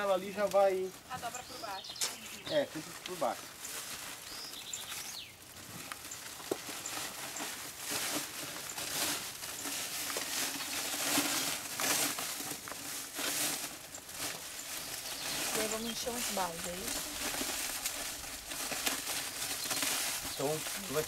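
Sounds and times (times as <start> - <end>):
plastic sack rustling and crinkling: 0.0 - 21.0.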